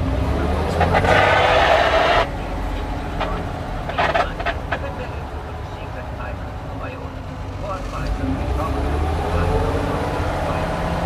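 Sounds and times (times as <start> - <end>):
winch engine drone: 0.0 - 11.0.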